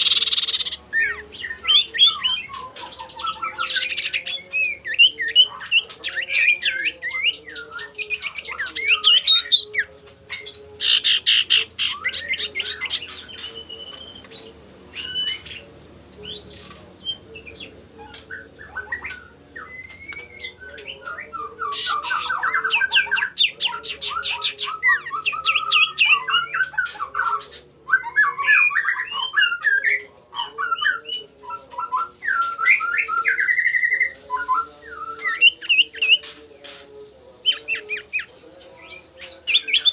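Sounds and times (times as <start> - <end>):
bird trilling and chattering: 0.0 - 39.9.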